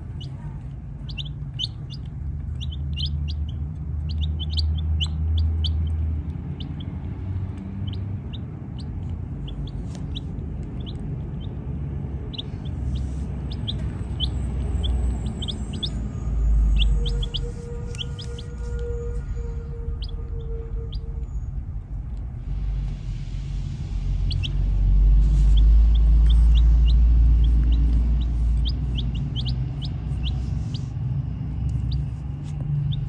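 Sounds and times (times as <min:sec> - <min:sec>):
baby chicks peeping: 0:00.0 - 0:21.3, 0:23.8 - 0:33.0
low rumble: 0:00.0 - 0:33.0.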